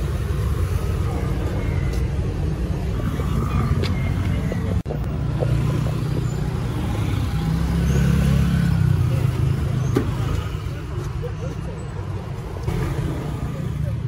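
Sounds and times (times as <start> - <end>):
scooters and cars passing: 0.0 - 14.0.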